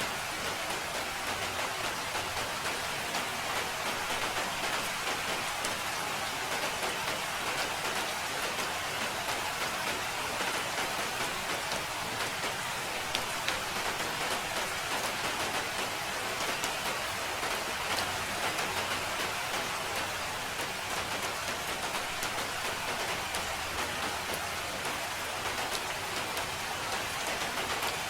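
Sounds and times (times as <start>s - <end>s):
rain pattering on a surface: 0.0s - 28.0s.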